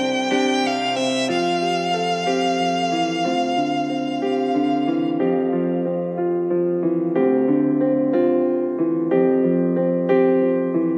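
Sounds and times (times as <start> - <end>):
piano playing held chords: 0.0 - 10.9.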